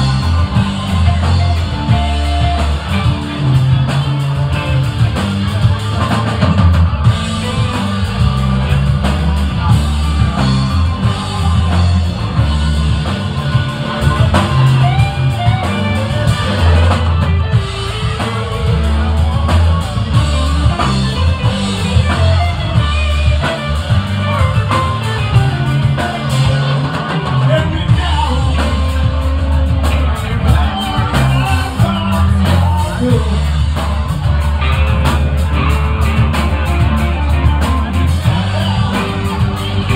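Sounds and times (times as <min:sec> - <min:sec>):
live rock band: 0:00.0 - 0:39.9
person singing: 0:07.1 - 0:39.9.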